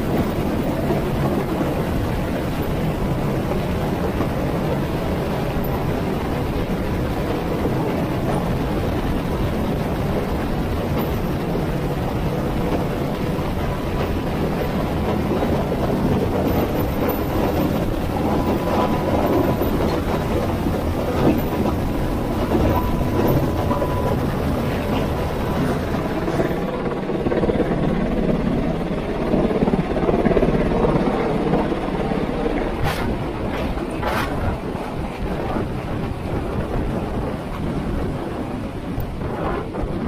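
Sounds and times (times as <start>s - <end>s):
helicopter rotor and engine noise: 0.0s - 40.0s
wind buffeting microphone: 0.0s - 40.0s.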